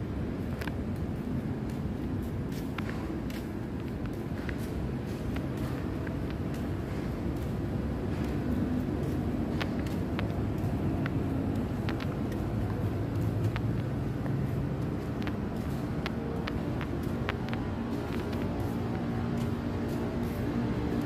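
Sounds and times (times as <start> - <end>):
low rumble of city traffic: 0.0 - 21.0.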